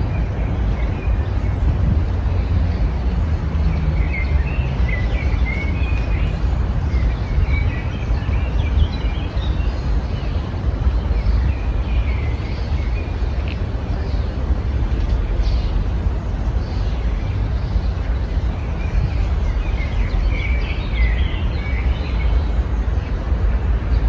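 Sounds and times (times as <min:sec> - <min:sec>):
small songbirds chirping: 0:00.0 - 0:24.0.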